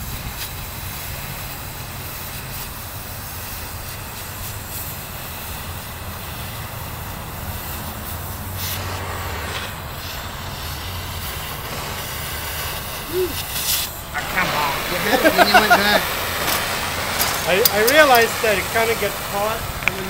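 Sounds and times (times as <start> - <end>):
cutting torch hissing: 0.0 - 20.0.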